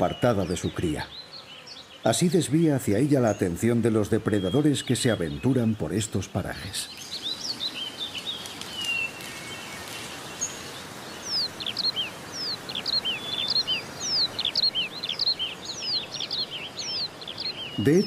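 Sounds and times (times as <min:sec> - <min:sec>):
birds chirping: 0:00.0 - 0:18.0
outdoor background hiss: 0:00.0 - 0:18.0.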